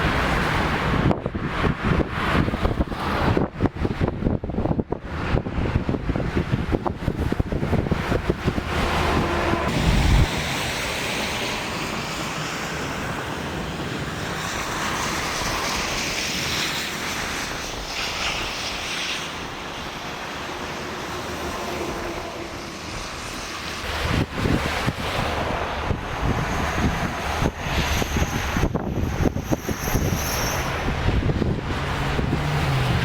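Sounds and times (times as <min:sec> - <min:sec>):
steady rushing noise: 0:00.0 - 0:33.0
wind buffeting microphone: 0:00.0 - 0:33.0.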